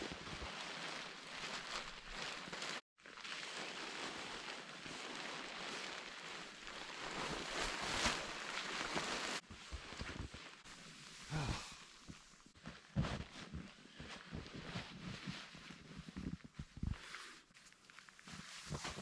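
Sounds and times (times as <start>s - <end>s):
tent fabric rustling and crinkling: 0.0s - 19.0s.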